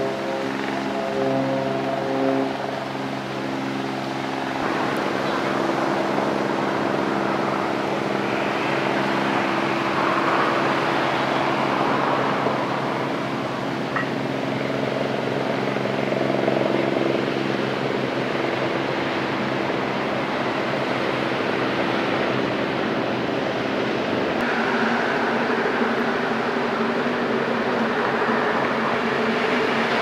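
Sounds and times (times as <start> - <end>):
engine humming steadily: 0.0 - 30.0
outdoor noise: 0.0 - 30.0.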